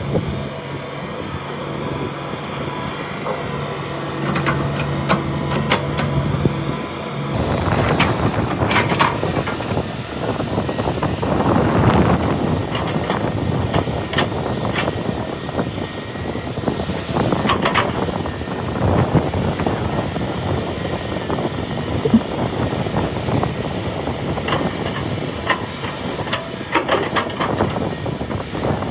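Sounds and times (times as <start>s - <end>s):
heavy diesel machinery rumbling: 0.0s - 21.8s, 23.0s - 28.9s.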